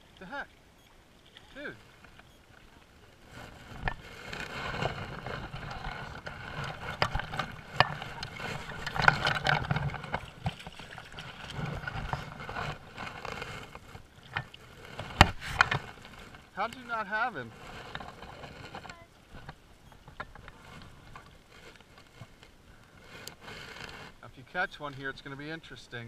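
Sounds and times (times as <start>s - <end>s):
water splashing and sloshing: 0.0s - 26.0s
sharp knocks and scrapes: 3.2s - 25.4s.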